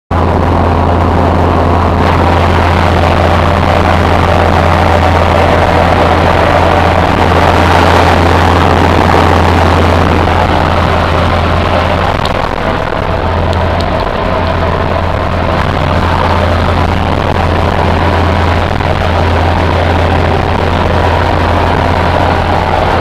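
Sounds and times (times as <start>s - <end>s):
aircraft engine drone: 0.1s - 23.0s
wind rushing: 0.2s - 23.0s.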